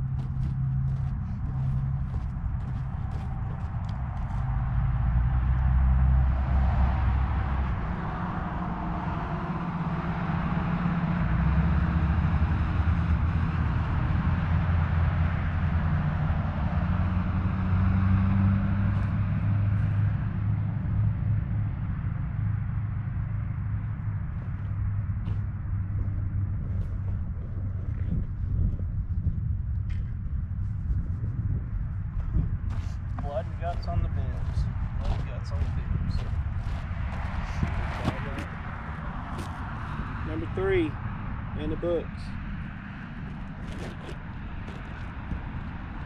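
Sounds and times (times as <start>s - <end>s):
cars passing: 0.0s - 30.2s, 31.8s - 46.0s
low steady rumble: 0.0s - 46.0s.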